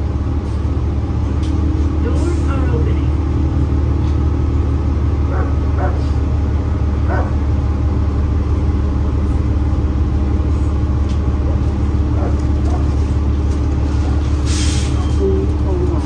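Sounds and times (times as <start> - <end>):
bus cabin drone: 0.0 - 16.0.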